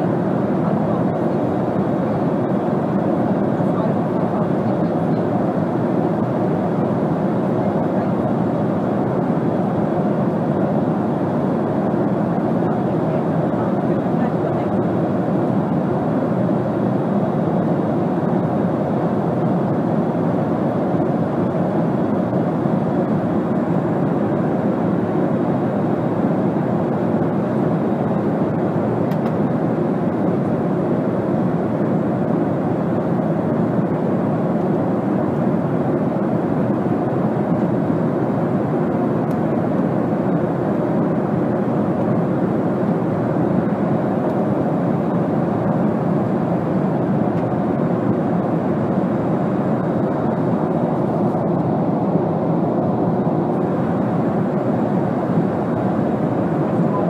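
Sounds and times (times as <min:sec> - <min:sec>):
jet airliner cabin noise: 0:00.0 - 0:57.0.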